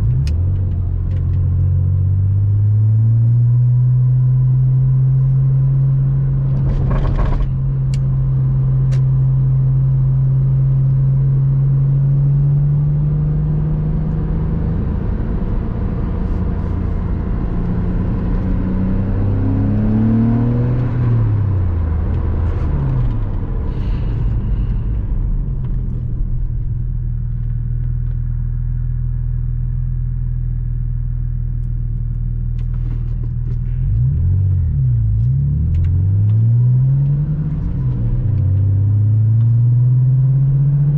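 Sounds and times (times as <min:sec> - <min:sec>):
car engine driving: 0:00.0 - 0:40.9.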